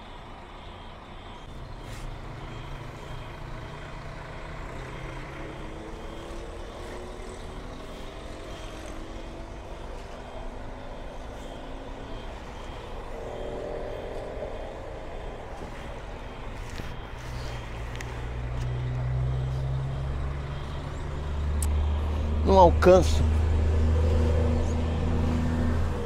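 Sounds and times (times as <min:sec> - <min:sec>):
heavy truck engine running: 0:00.0 - 0:26.0.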